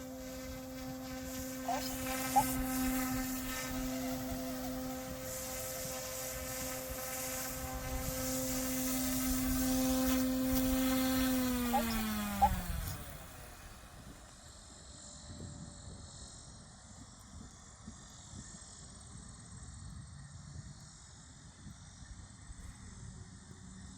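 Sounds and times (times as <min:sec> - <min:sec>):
rc helicopter rotor whining: 0:00.0 - 0:23.9.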